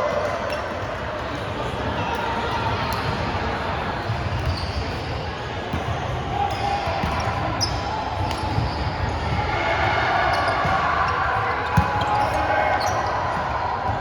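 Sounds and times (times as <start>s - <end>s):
players' voices: 0.0s - 14.0s
volleyball thumps in echoing hall: 0.0s - 14.0s.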